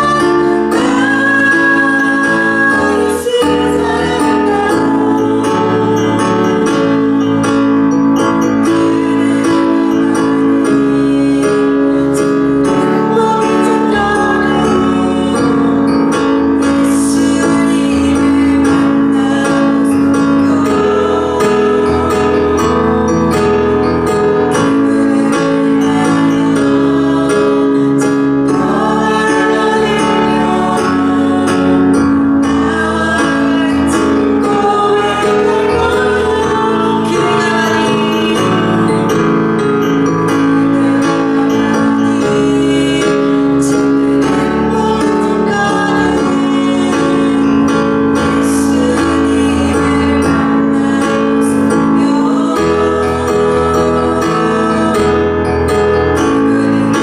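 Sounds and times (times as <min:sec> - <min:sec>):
congregation singing worship song: 0:00.0 - 0:57.0
guitar accompaniment: 0:00.0 - 0:57.0.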